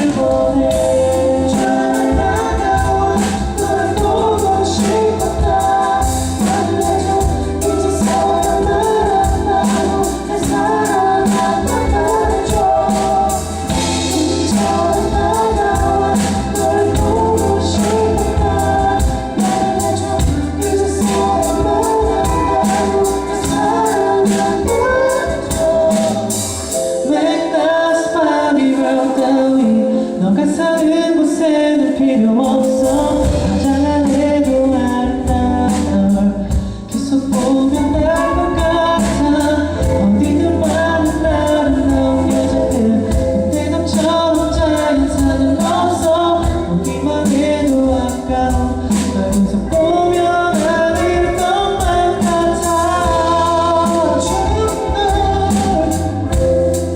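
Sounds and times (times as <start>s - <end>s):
bass guitar: 0.0s - 27.2s, 32.3s - 56.9s
band with drum beat: 0.0s - 27.3s, 32.4s - 56.9s
man singing: 0.0s - 56.9s.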